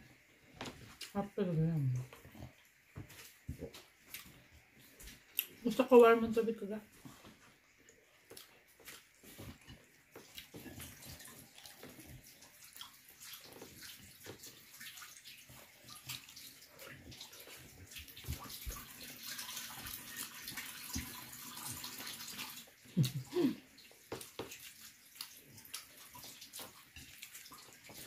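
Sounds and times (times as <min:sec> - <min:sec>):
wet chewing and lip smacks: 0:02.0 - 0:05.6, 0:07.0 - 0:21.2, 0:22.3 - 0:28.0.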